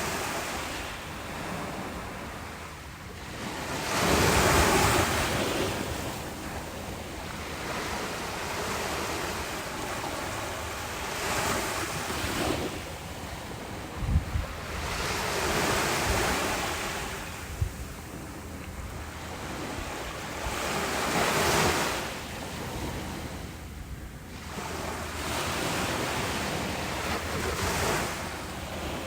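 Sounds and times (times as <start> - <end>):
ocean waves breaking on beach: 0.0 - 29.0
wind buffeting microphone: 3.3 - 29.0.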